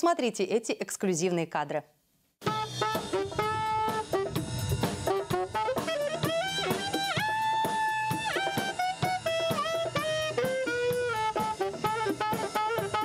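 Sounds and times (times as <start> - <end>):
brass band playing upbeat song: 2.4 - 13.0
saxophones playing melody: 2.4 - 13.0
steady drum beats: 2.4 - 13.0.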